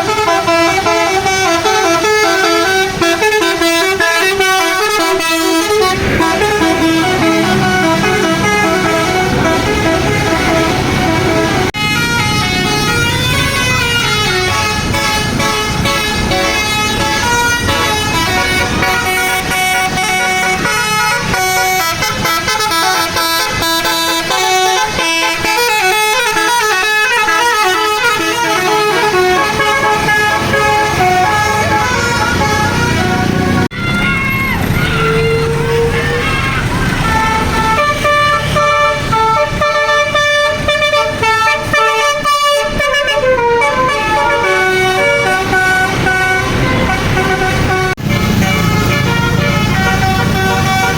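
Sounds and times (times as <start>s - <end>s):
air horns playing a melody: 0.0s - 50.9s.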